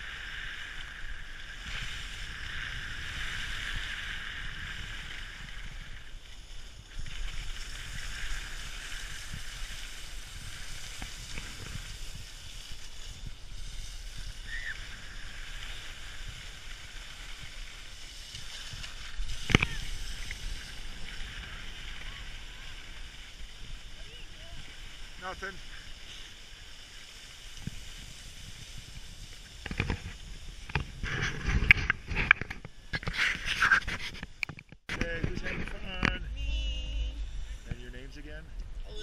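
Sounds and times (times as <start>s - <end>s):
skis scraping over snow: 0.0s - 34.3s, 35.0s - 38.4s
wind rumbling on microphone: 0.0s - 39.0s.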